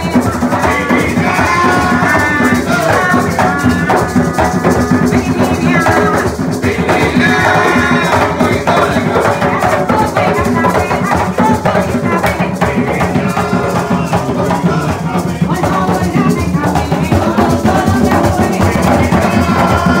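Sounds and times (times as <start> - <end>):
hand drums playing: 0.0 - 20.0
maraca shaking: 0.0 - 20.0.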